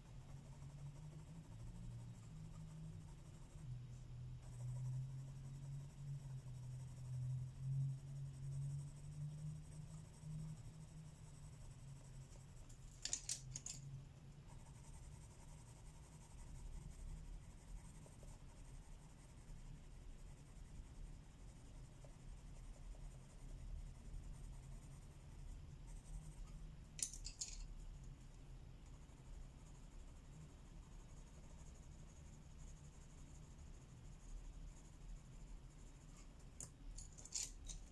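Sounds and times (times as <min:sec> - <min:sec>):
pencil scratching on paper: 0:00.0 - 0:28.3, 0:28.9 - 0:37.9
low steady hum: 0:00.0 - 0:37.9.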